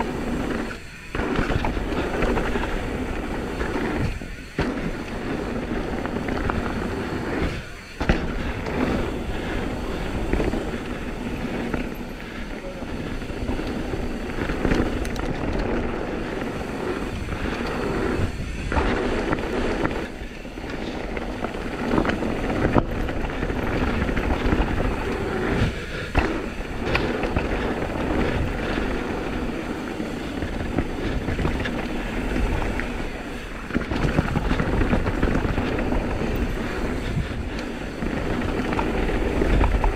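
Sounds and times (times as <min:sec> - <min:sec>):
bike rattling and clacking: 0:00.0 - 0:39.9
tyres on dirt and rocks: 0:00.0 - 0:39.9
wind rush: 0:00.0 - 0:39.9.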